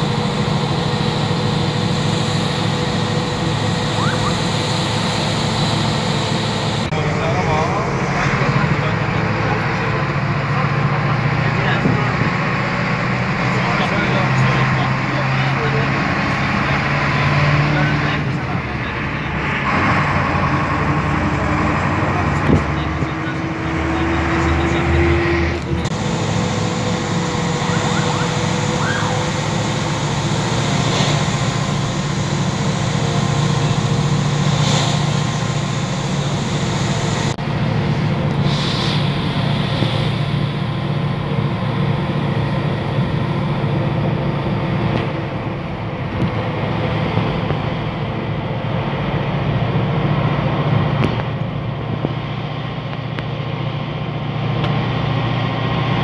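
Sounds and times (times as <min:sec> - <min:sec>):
vehicle road and engine noise: 0:00.0 - 0:56.0.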